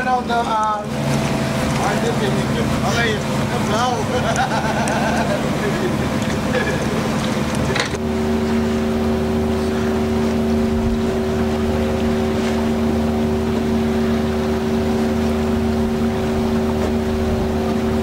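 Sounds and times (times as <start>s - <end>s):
outboard motor running: 0.0s - 18.0s
water noise: 0.0s - 18.0s
wind: 0.0s - 18.0s.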